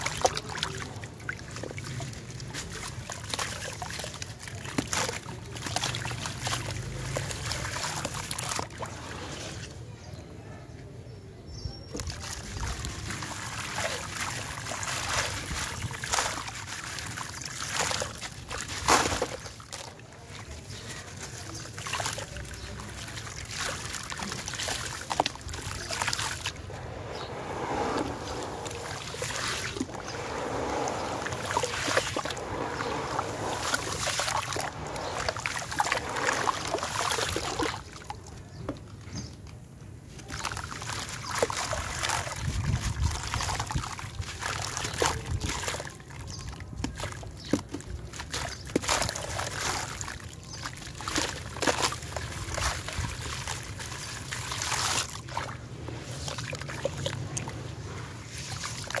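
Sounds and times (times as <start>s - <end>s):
hands squelching wet slurry: 0.0s - 9.9s, 11.8s - 38.6s, 39.2s - 59.0s.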